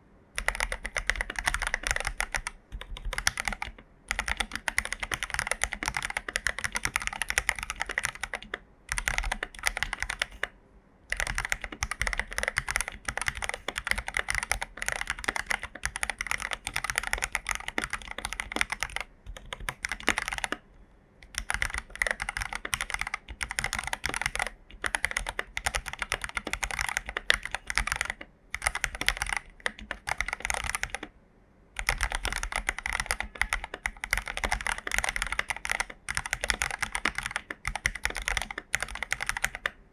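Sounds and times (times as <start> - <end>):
fast mechanical keyboard typing: 0.4 - 10.5, 11.1 - 20.6, 21.2 - 31.1, 31.8 - 39.8.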